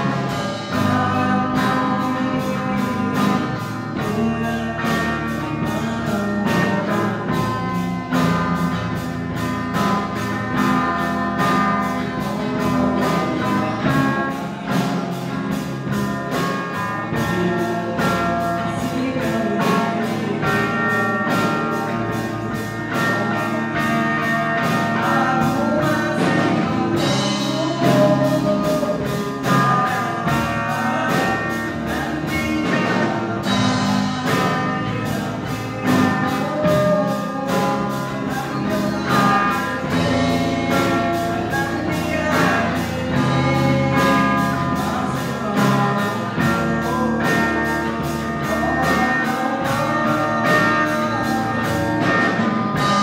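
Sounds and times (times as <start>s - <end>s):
boy singing into microphone: 0.0s - 53.0s
drum kit beat: 0.0s - 53.0s
electric and acoustic guitars: 0.0s - 53.0s.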